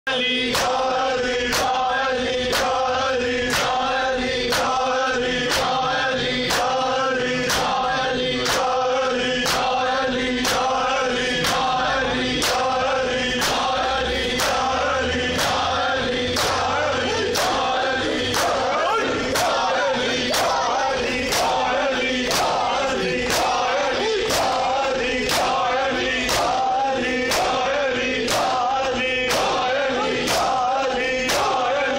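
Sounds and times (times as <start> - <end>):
men chanting: 0.1 - 31.9.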